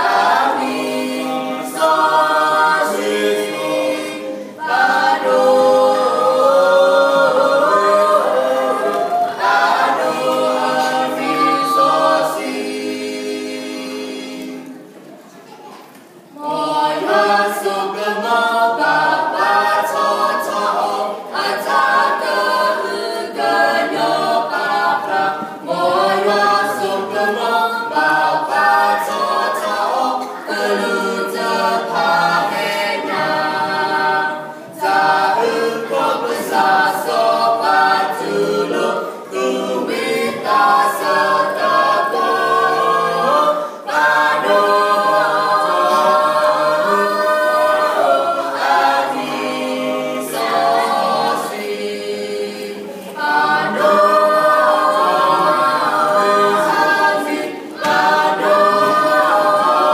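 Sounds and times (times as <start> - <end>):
vocal quartet singing in harmony: 0.0 - 15.0, 16.2 - 59.9.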